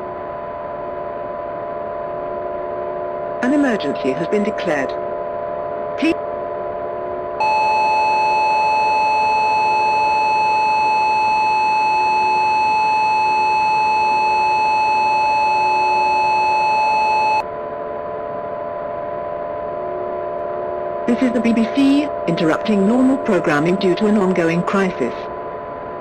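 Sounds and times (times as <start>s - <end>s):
faint steady drone: 0.0s - 26.0s.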